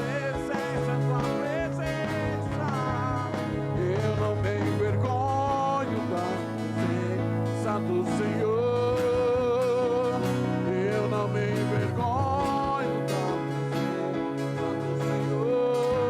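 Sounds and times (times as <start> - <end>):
sustained bass and chords: 0.0 - 16.0.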